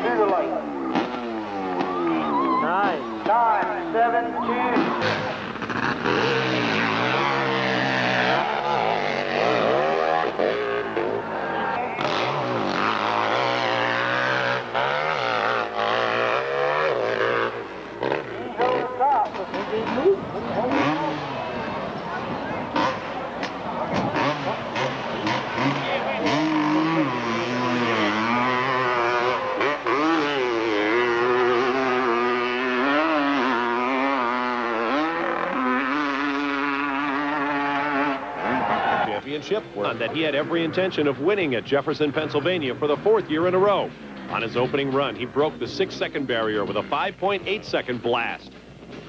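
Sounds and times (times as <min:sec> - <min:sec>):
motorcycle engine revving hard: 0:00.0 - 0:49.0.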